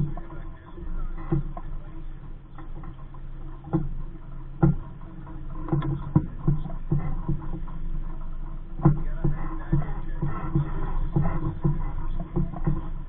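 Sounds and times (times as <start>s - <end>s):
waves slapping against hull: 0.0s - 13.0s.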